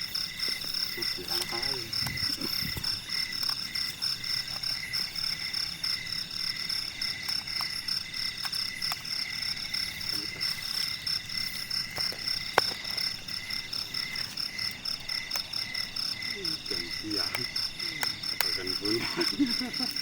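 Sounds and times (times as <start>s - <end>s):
frogs and insects calling: 0.0s - 20.0s.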